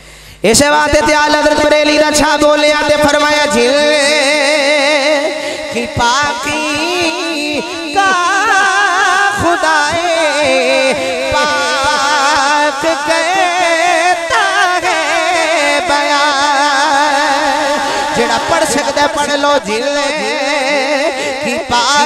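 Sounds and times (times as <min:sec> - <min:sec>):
man singing: 0:00.4 - 0:22.0.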